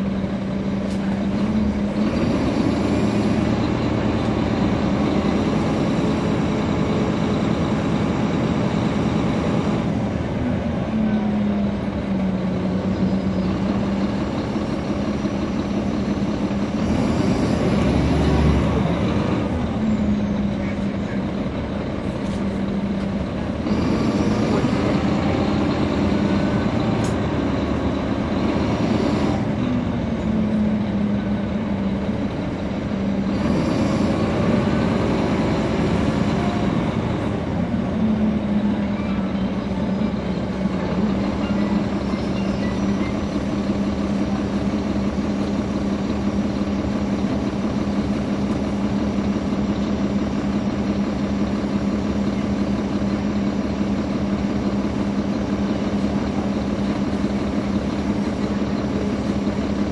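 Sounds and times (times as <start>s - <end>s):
bus diesel engine humming: 0.0s - 59.9s.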